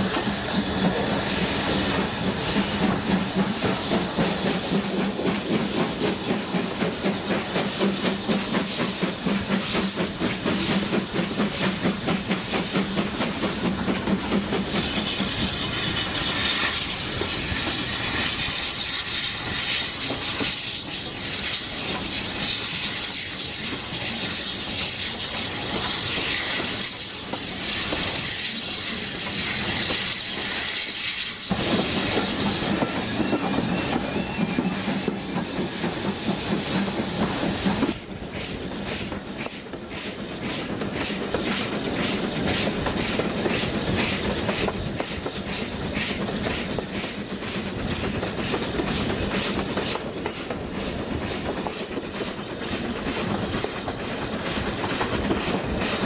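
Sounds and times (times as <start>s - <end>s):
steam hissing: 0.0s - 56.0s
steam locomotive chuffing: 0.0s - 56.0s
wheels clattering on rail: 0.0s - 56.0s.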